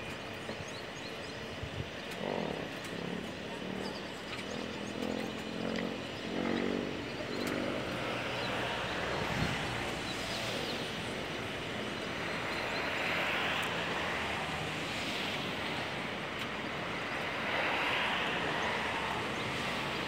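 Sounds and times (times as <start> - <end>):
distant jet airliner engine: 0.0 - 20.0
road traffic hum: 0.0 - 20.0.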